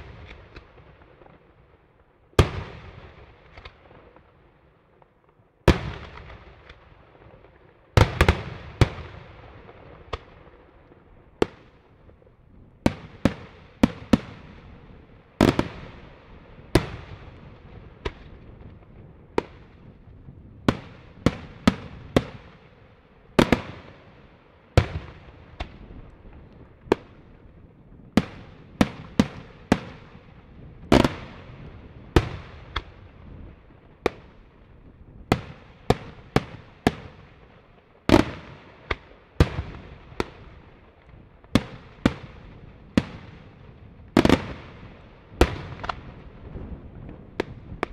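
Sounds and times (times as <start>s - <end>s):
fireworks bursting with echo: 0.0s - 47.9s.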